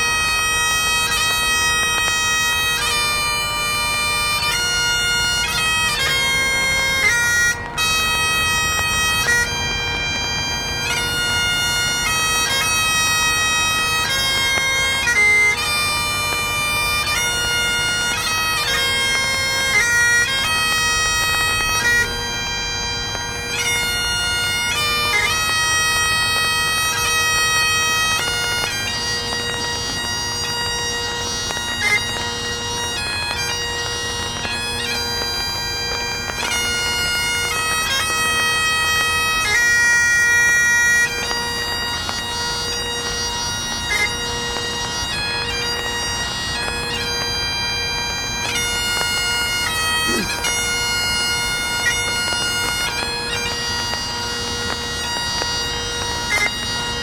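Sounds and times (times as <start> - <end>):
steady drone: 0.0 - 57.0
wind instrument melody: 0.0 - 57.0.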